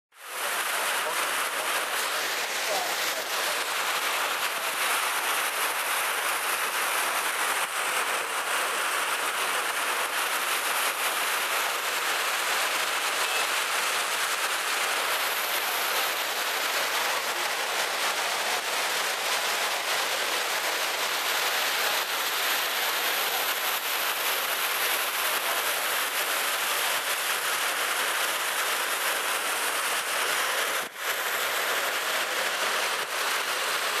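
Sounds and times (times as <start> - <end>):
waterfall water pouring: 0.2 - 34.0.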